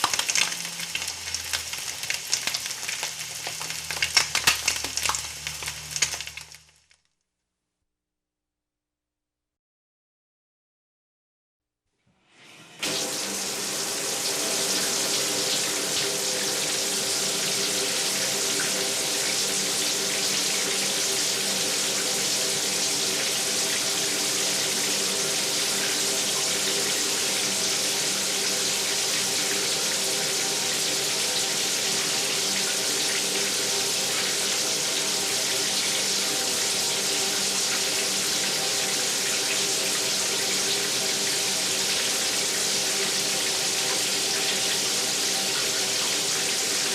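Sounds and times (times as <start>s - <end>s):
tap water running into sink: 0.0s - 6.6s, 12.8s - 46.9s.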